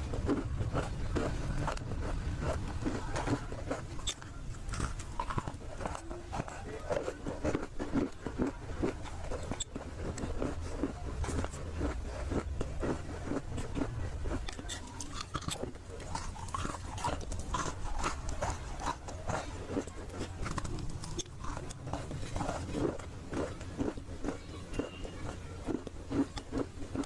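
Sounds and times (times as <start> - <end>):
person crunching dry clay: 0.0 - 27.0.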